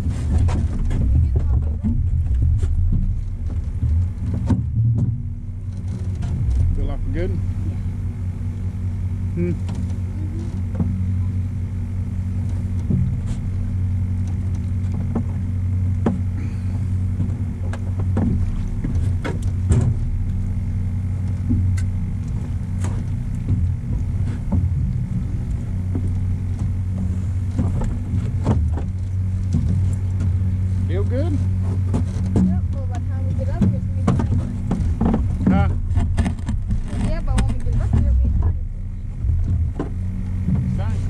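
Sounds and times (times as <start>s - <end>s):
outboard motor humming: 0.0s - 41.0s.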